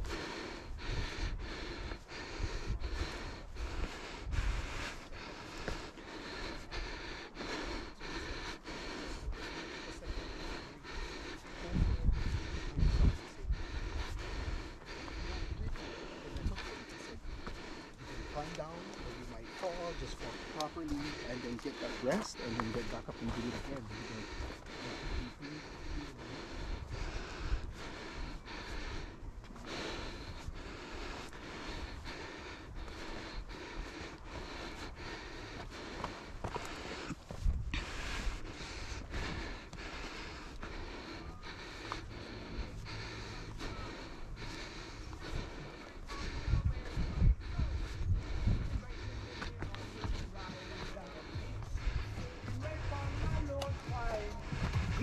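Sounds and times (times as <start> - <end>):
heavy breathing through a mask: 0.0 - 55.0.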